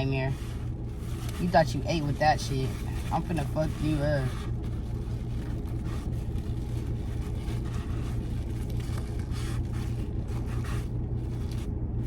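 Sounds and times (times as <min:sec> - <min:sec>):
low hum: 0:00.0 - 0:12.0
rustles and clicks: 0:00.0 - 0:12.0.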